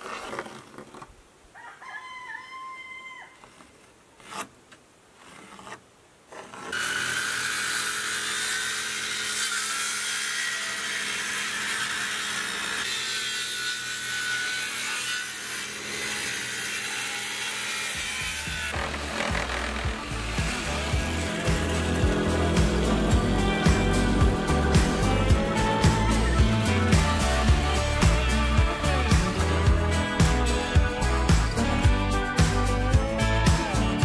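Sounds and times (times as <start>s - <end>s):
electric saw cutting wood: 6.4s - 34.0s.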